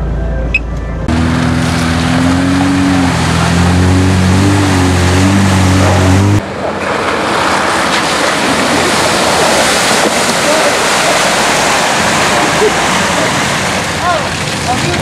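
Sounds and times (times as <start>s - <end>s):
engine at high revs: 1.1s - 14.2s
mud and water splashing: 1.1s - 15.0s.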